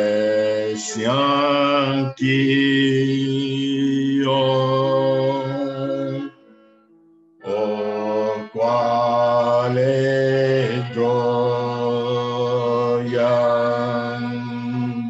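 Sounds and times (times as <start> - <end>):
slow droning music: 0.0 - 15.0.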